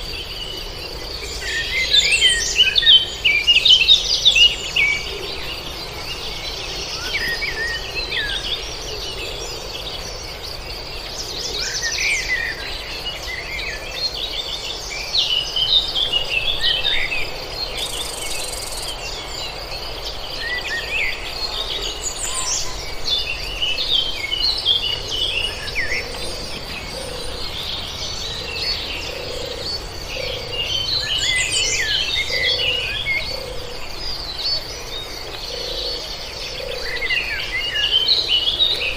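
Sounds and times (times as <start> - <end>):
birds chirping and calling: 0.0 - 38.9
high-pitched insect trill: 0.0 - 38.9.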